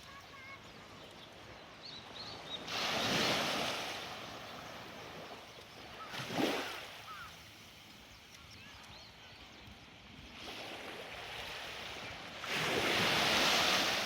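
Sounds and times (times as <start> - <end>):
waves breaking on beach: 0.0 - 8.1, 9.9 - 14.0.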